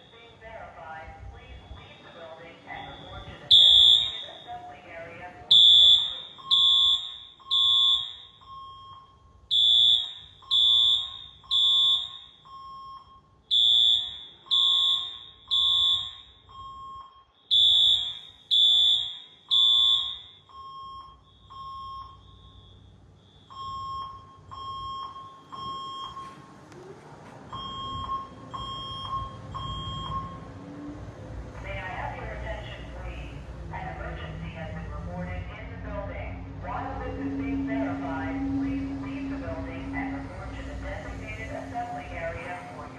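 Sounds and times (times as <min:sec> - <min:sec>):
fire alarm horn blasts: 0:00.0 - 0:26.6, 0:27.5 - 0:30.6, 0:31.6 - 0:42.9
faint fire alarm horn: 0:00.0 - 0:30.7, 0:31.6 - 0:42.9.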